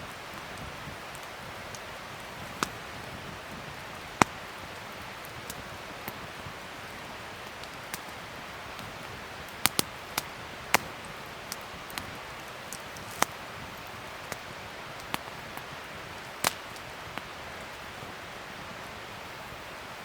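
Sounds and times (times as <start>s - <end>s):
wood fire crackling and popping: 0.0s - 19.6s.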